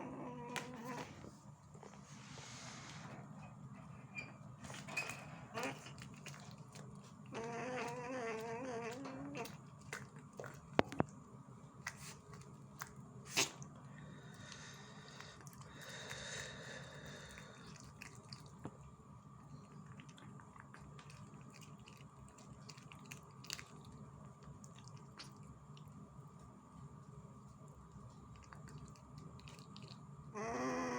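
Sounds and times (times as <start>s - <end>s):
faint steady hum: 0.0s - 30.9s
small animal chewing: 4.7s - 30.6s.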